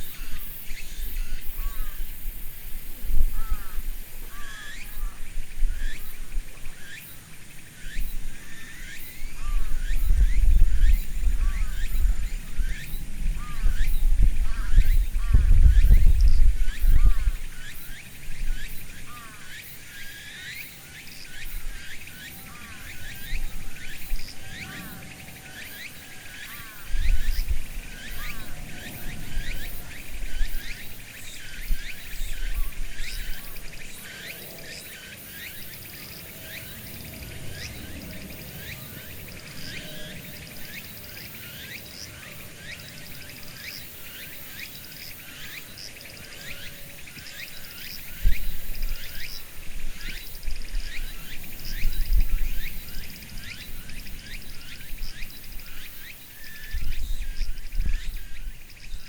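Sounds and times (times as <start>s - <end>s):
cicadas droning and chirping: 0.0s - 59.0s.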